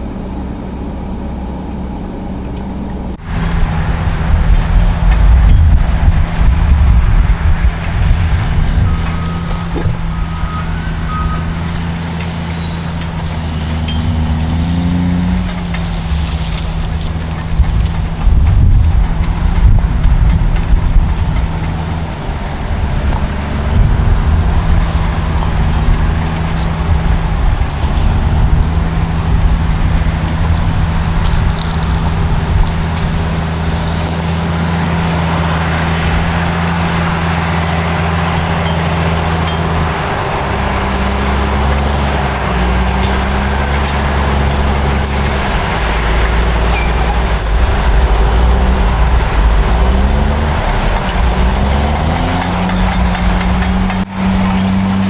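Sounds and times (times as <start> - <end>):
bulldozer diesel engines under load: 0.0 - 55.0.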